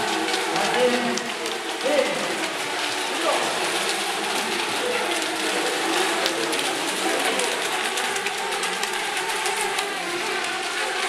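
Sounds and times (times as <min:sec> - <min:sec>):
model boat motors whining: 0:00.0 - 0:11.0
water noise: 0:00.0 - 0:11.0.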